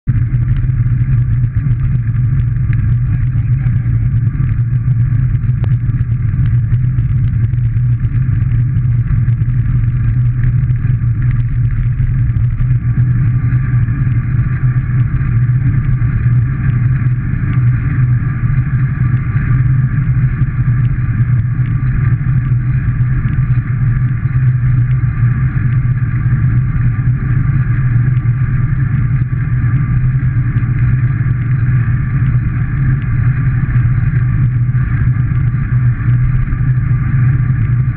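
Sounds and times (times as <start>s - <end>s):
bicycle road rumble: 0.0s - 37.9s
wind rush on microphone: 0.0s - 37.9s.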